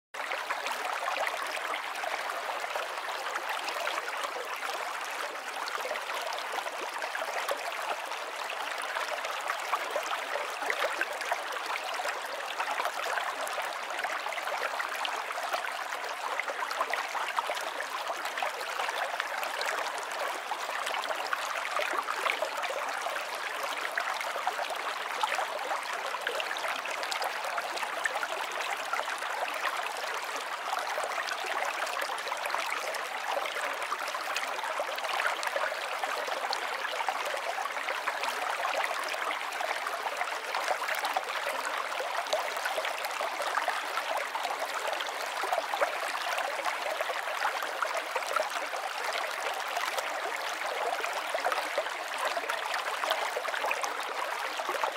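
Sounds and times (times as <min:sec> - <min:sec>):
stream babbling over rocks: 0:00.2 - 0:54.9.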